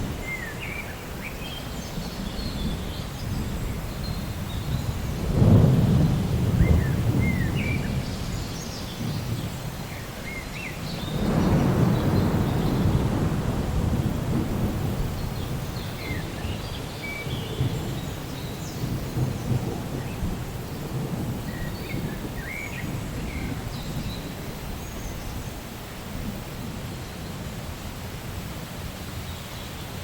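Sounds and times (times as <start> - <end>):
steady rain: 0.0 - 30.0
rolling thunder: 1.9 - 9.9, 10.8 - 27.7.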